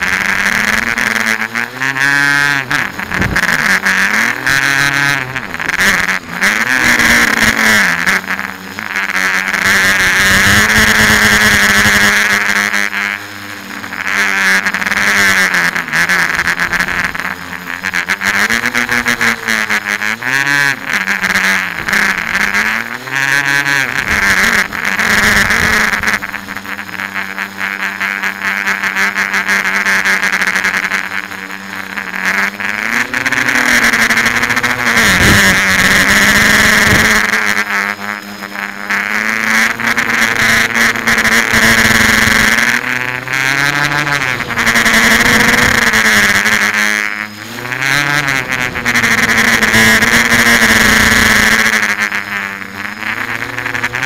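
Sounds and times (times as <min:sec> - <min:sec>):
drone motors and propellers buzzing: 0:00.0 - 0:54.0.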